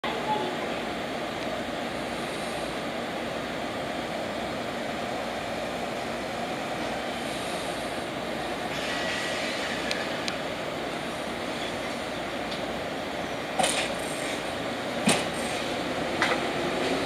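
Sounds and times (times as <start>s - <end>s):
train equipment whooshing drone: 0.1s - 17.0s.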